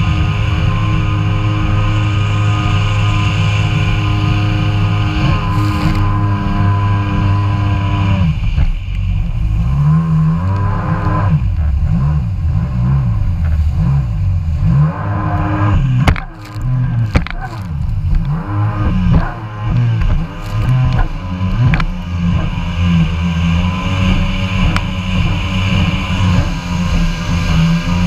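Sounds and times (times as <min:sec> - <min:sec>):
jet ski engine running: 0:00.0 - 0:28.0
water splashing against hull: 0:00.1 - 0:28.0.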